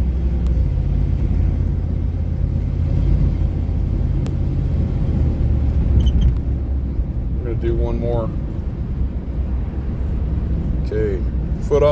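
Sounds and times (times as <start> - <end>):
engine and road rumble in cab: 0.0 - 11.9.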